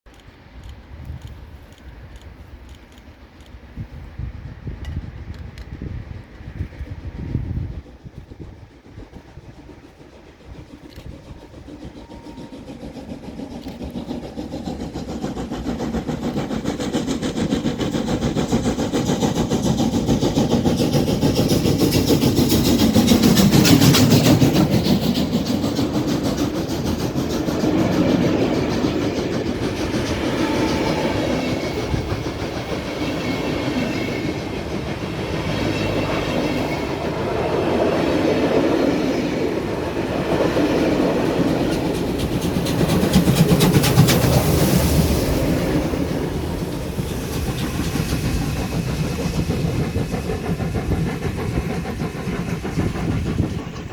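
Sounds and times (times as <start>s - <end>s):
steam locomotive exhaust: 0.5s - 53.9s.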